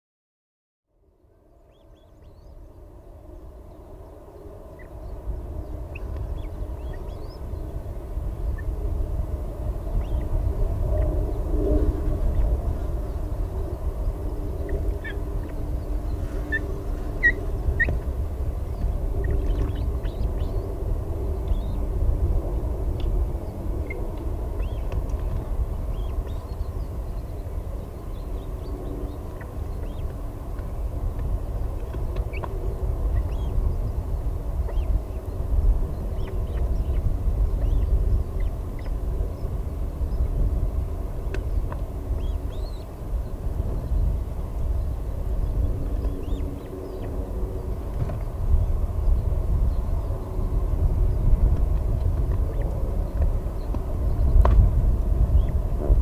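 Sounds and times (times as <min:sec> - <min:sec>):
low rumble: 0:01.0 - 0:56.0.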